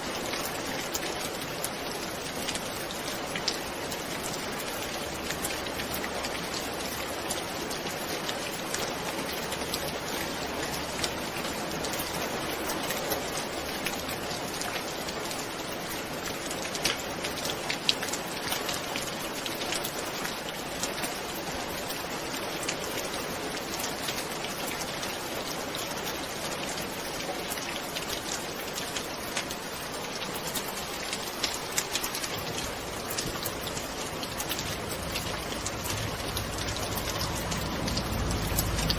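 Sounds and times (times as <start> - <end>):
steady rain hiss: 0.0 - 38.9
close raindrop hits: 0.1 - 38.9.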